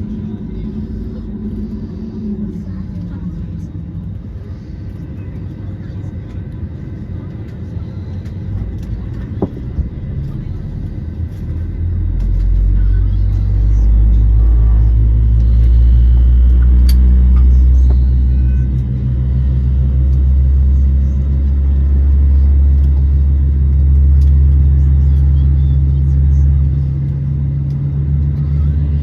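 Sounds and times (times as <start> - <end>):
aircraft cabin rumble and hum: 0.0 - 29.0.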